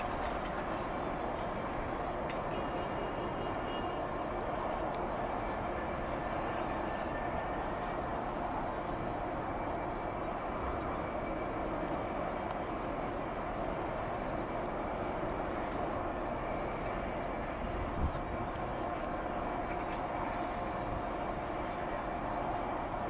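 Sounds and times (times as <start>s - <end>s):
diesel locomotives idling: 0.0s - 23.0s
faint steady tones: 0.0s - 23.0s.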